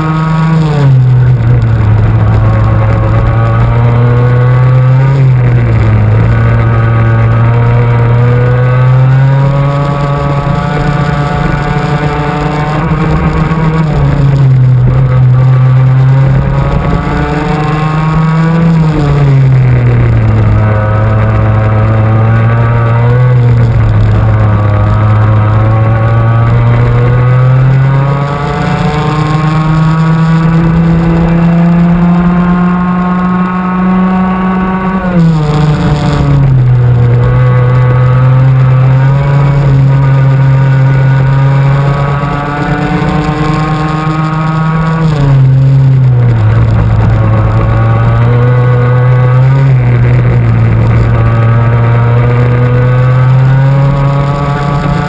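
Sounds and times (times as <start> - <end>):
two-stroke kart engine: 0.0 - 55.0.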